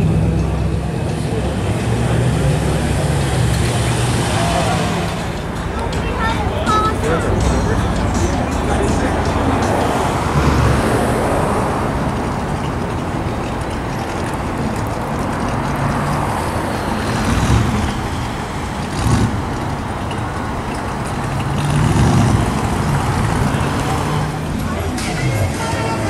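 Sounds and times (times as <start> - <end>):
car engine driving past: 0.0 - 26.0
street traffic noise: 0.0 - 26.0.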